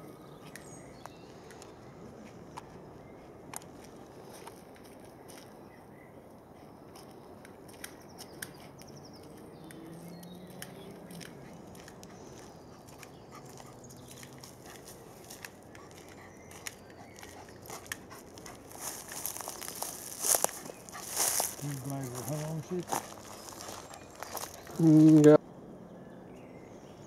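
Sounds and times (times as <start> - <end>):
twigs and leaves crunching underfoot: 0.1 - 5.8, 6.8 - 25.4
footsteps on dirt path: 0.3 - 5.6, 6.6 - 25.4.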